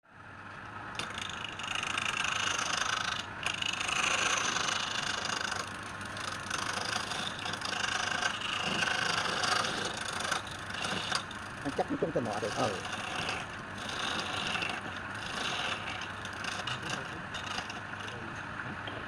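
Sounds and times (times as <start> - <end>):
lathe motor hum: 0.2 - 19.0
tool hissing cutting spinning wood: 1.0 - 18.4.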